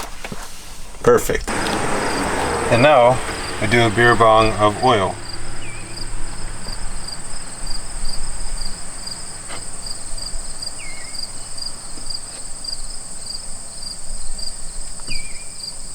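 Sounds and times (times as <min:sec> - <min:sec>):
insects chirping: 0:01.5 - 0:15.7.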